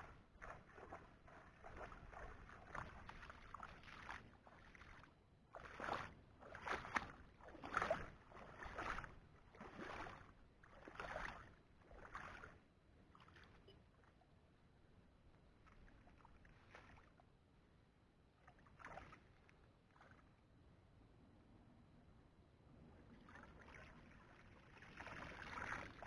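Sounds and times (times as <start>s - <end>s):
water splashing and sloshing: 0.0s - 17.6s, 18.2s - 20.6s, 22.9s - 26.0s.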